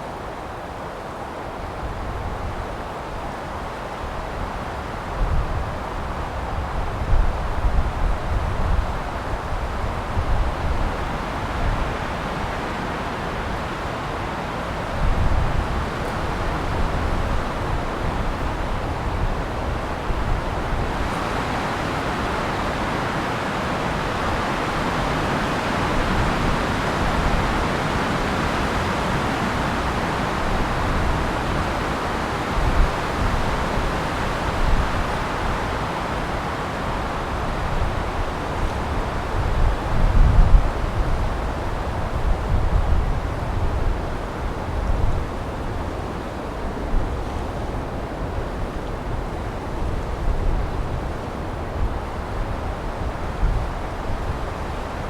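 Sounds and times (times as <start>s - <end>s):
wind rushing through trees: 0.0s - 55.0s.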